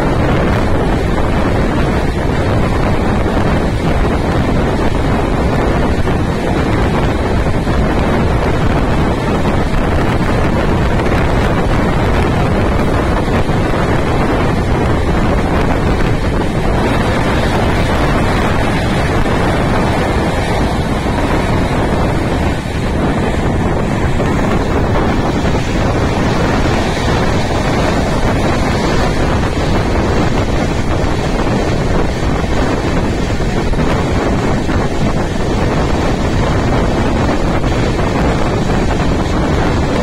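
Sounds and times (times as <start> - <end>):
moving train rumbling: 0.0 - 40.0
wind buffeting microphone: 0.0 - 40.0.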